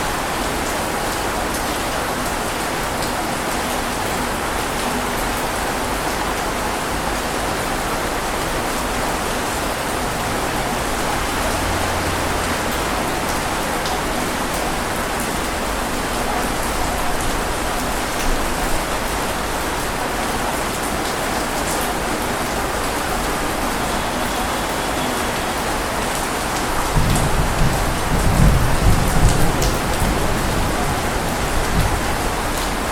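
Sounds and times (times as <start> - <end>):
heavy rain pattering: 0.0 - 32.9.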